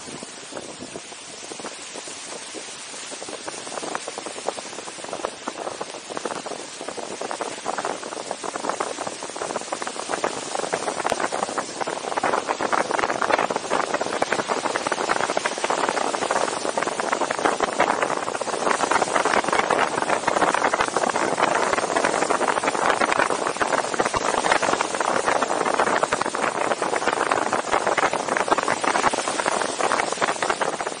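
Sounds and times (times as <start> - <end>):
dense crackle: 0.0 - 31.0
tyre noise on snowy road: 0.0 - 31.0
wind rushing: 0.0 - 31.0.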